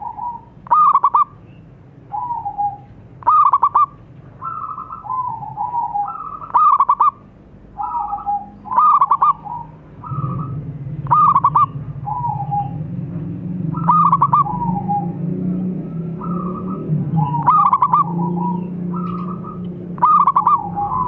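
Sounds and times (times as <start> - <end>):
dove cooing song: 0.0 - 1.4, 2.1 - 21.0
low steady hum: 0.0 - 21.0.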